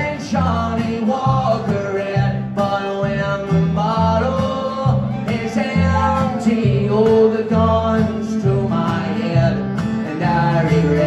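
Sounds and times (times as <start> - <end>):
fiddle melody: 0.0 - 11.0
plucked upright bass: 0.0 - 11.0
strummed acoustic guitar: 0.0 - 11.0.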